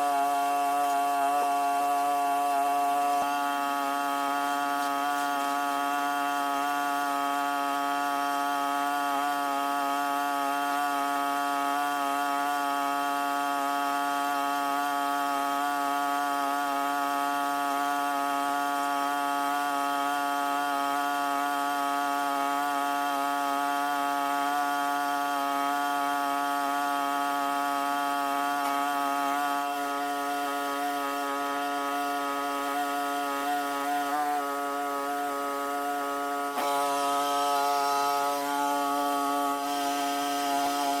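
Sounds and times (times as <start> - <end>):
small engine buzzing at high speed: 0.0 - 41.0.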